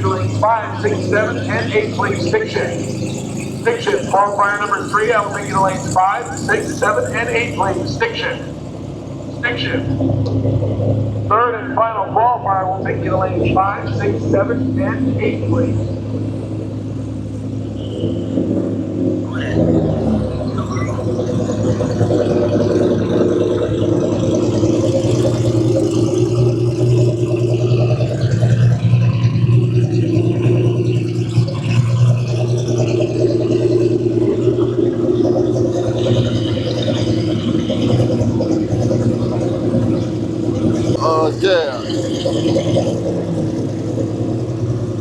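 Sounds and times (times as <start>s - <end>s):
drag racing engines rumbling: 0.0s - 45.0s.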